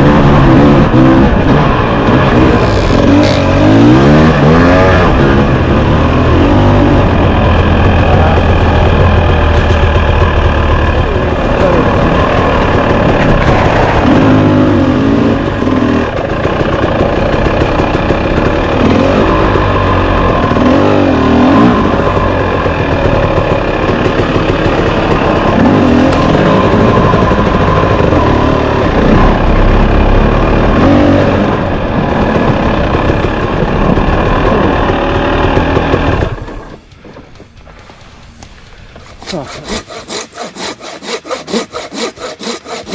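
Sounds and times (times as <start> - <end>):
two-stroke dirt bike engine revving: 0.0 - 36.9, 39.0 - 42.9.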